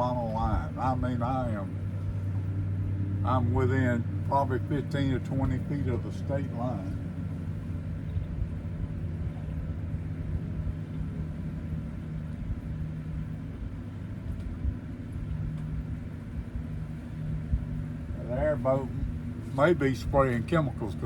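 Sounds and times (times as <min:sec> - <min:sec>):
distant airboat engine droning: 0:00.0 - 0:21.0.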